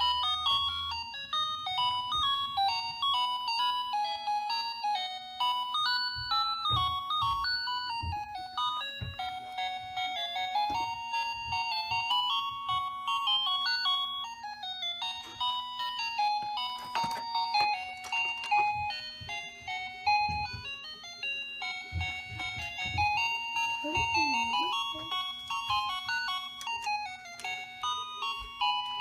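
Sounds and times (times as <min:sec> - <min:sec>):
electronic toy beeping melody: 0:00.0 - 0:29.0.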